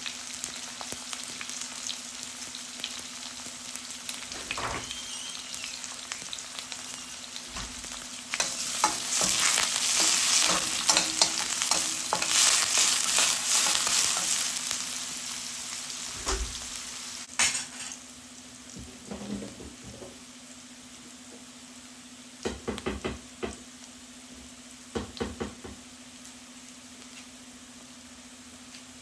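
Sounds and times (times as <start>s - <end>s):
food frying in a pan: 0.0s - 29.0s.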